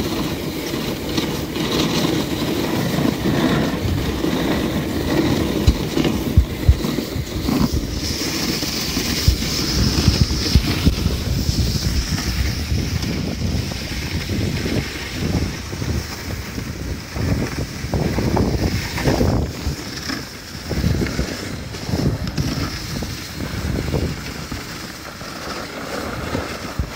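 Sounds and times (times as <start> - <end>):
sled runners sliding over snow: 0.0 - 26.9
wind buffeting microphone: 1.0 - 25.3.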